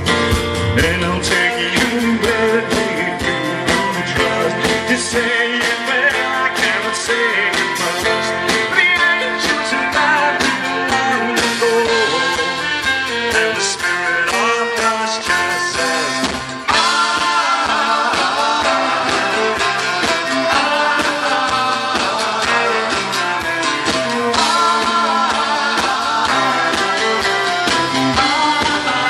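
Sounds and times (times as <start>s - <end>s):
folk-rock band playing live: 0.0s - 29.0s.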